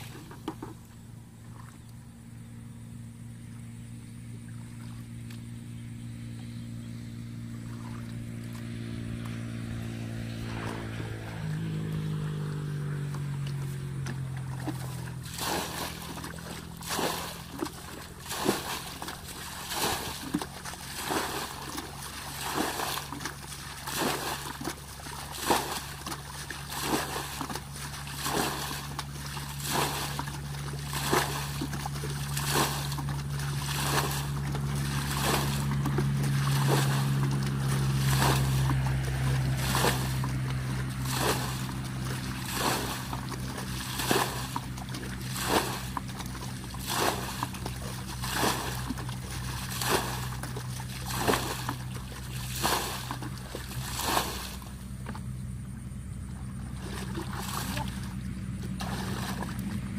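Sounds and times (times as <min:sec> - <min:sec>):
water splashing from basin: 0:00.0 - 0:00.9, 0:07.4 - 0:59.9
low engine-like hum: 0:00.0 - 0:59.9.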